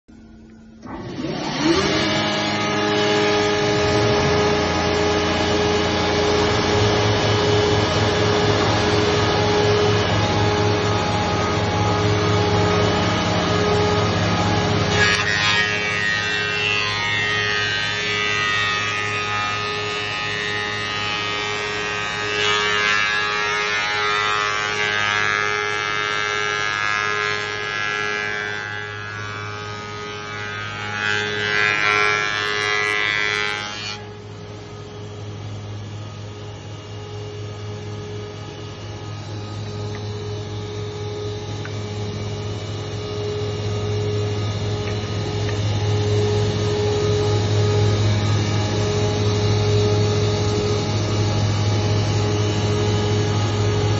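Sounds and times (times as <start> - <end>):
low motor hum: 0.1 - 53.9
planer cutter heads whining: 0.1 - 53.9.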